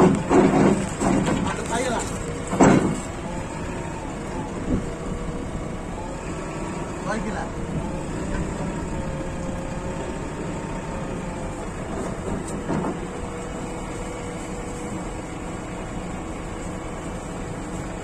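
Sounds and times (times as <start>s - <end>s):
diesel engine running with whine: 0.0s - 18.0s.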